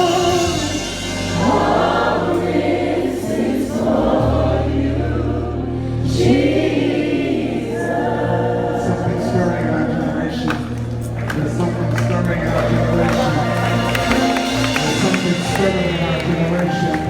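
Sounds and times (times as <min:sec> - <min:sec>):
choir singing: 0:00.0 - 0:17.0
sustained low chords: 0:00.0 - 0:17.0.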